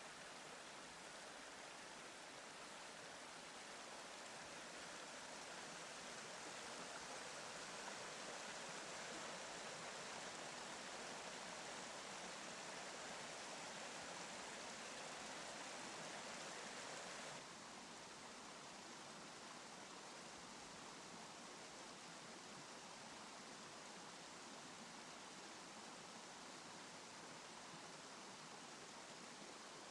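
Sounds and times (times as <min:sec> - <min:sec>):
flowing water rushing: 0:00.0 - 0:29.9.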